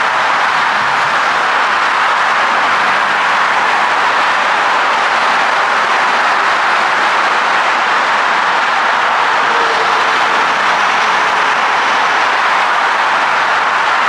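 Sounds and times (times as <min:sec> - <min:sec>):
highway traffic noise: 0:00.0 - 0:14.0.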